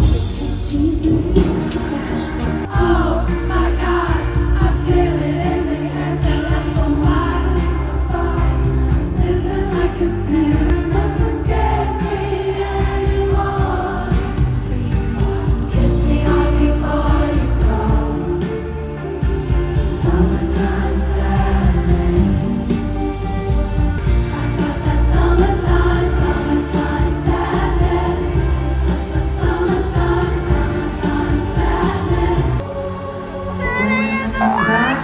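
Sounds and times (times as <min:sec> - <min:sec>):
slow pop song with choir-like vocals: 0:00.0 - 0:35.0.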